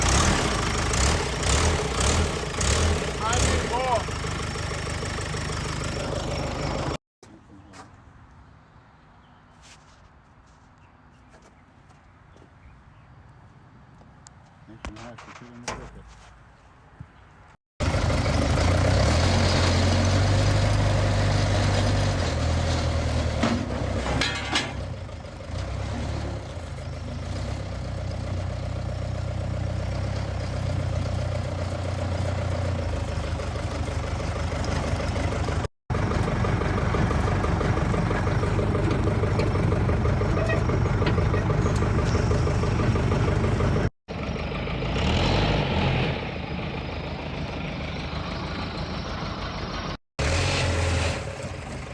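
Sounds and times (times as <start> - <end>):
diesel engine rumbling: 0.0 - 7.7, 17.8 - 51.9.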